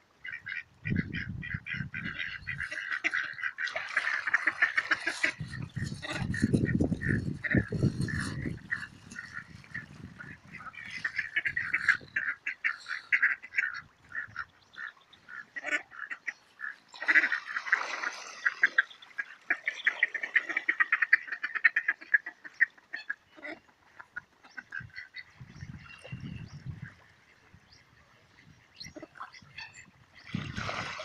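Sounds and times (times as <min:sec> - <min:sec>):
ducks quacking: 0:00.2 - 0:30.9.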